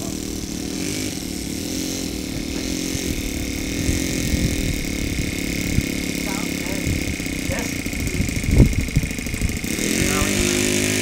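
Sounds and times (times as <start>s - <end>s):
model plane engine running: 0.0s - 11.0s.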